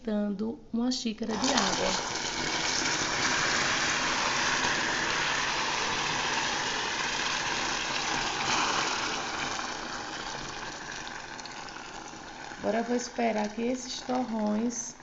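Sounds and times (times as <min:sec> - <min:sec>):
hot syrup hissing and bubbling: 0:01.3 - 0:15.0.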